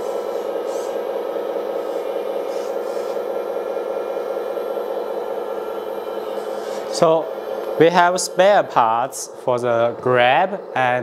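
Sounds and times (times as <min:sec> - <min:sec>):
faint hydraulic hisses: 0:00.0 - 0:10.9
hydraulic pump humming: 0:00.0 - 0:11.0.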